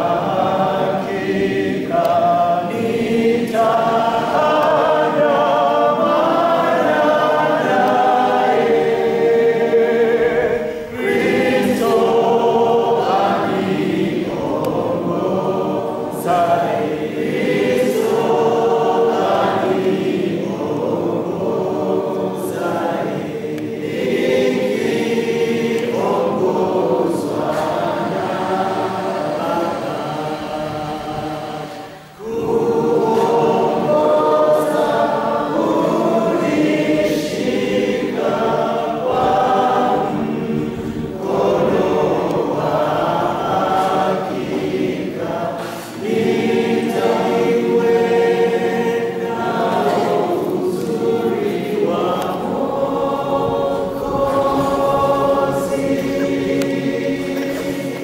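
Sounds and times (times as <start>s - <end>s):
group singing a slow hymn: 0.0s - 58.0s.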